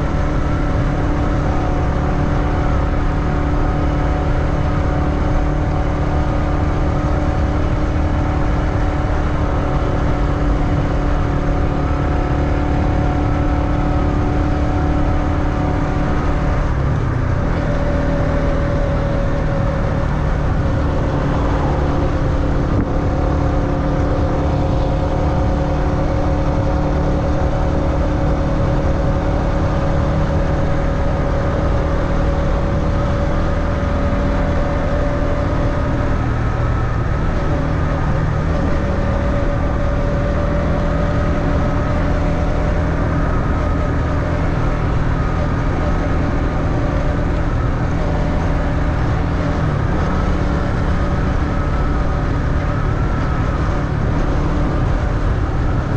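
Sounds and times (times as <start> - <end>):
motorbike engine running: 0.0 - 55.9.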